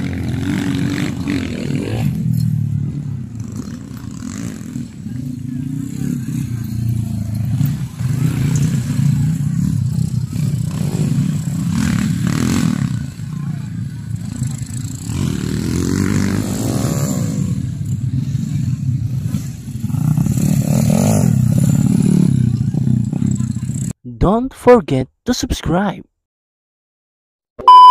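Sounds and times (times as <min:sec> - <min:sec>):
dirt bike engines running: 0:00.0 - 0:24.0
voices: 0:00.0 - 0:26.0.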